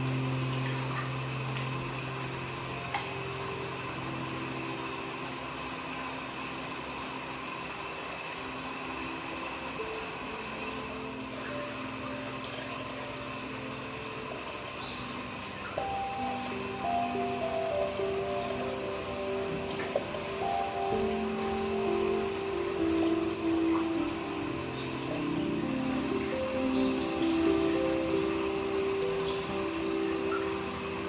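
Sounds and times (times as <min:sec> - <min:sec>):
running water rushing: 0:00.0 - 0:31.0
soft music with long held notes: 0:00.0 - 0:31.0.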